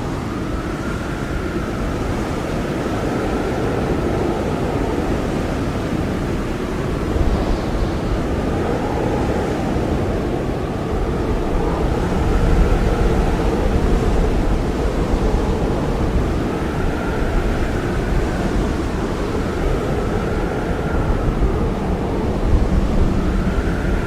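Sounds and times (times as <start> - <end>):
blizzard wind blowing hard: 0.0 - 24.0.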